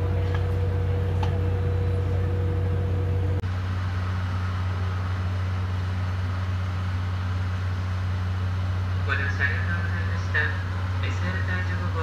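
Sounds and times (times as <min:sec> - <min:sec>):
diesel generator drone: 0:00.0 - 0:12.0
train running noise: 0:00.0 - 0:12.0.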